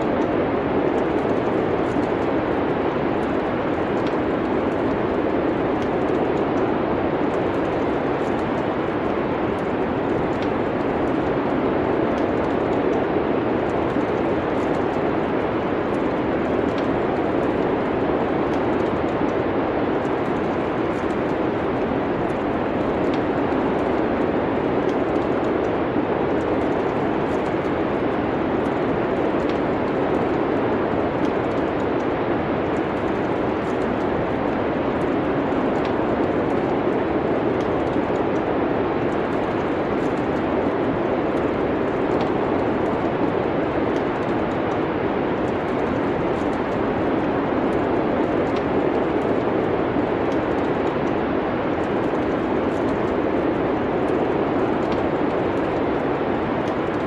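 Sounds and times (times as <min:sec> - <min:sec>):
wind of a snowstorm: 0:00.0 - 0:57.0
wood fire crackling: 0:00.0 - 0:57.0.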